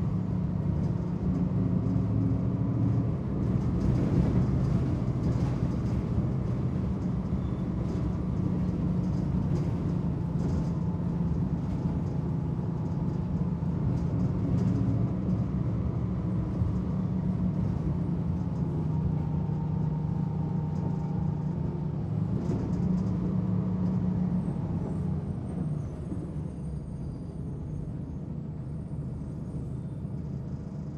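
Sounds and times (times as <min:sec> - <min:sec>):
bus engine rumbling: 0:00.0 - 0:30.9.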